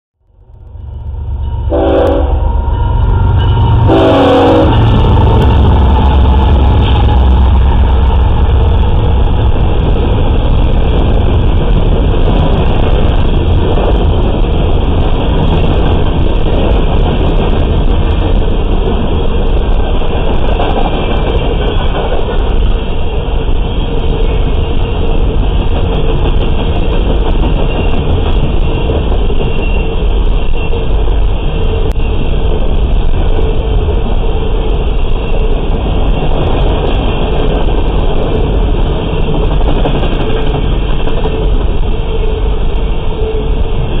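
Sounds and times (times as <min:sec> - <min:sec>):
freight train rolling past: 0:00.2 - 0:44.0.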